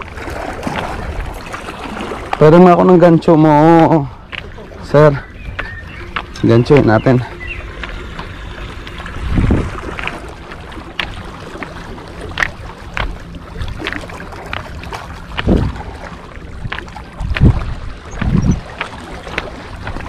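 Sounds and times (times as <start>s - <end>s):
wind buffeting microphone: 3.6s - 20.0s.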